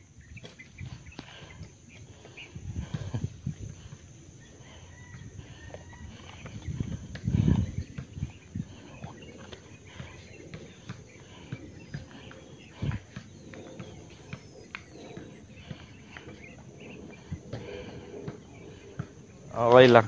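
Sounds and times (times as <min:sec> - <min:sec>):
faint bird chirps: 0:00.0 - 0:19.6.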